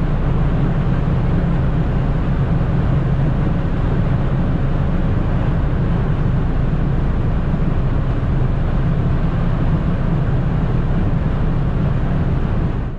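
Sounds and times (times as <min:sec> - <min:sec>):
road and wind noise: 0:00.0 - 0:12.9.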